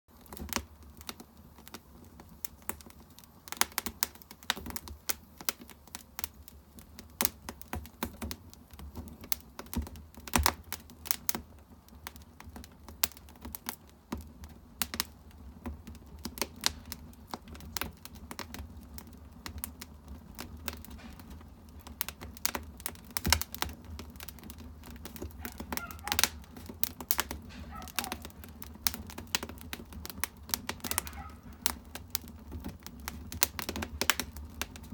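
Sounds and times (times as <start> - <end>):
firewood crackling and popping: 0.1 - 34.9
low steady fire sound: 0.1 - 34.9.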